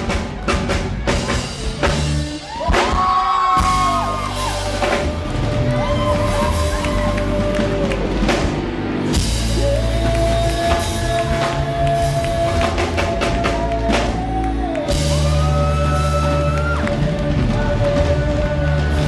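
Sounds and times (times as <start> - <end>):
bass: 0.0 - 19.0
drum kit: 0.0 - 19.0
worship band playing rock song: 0.0 - 19.0.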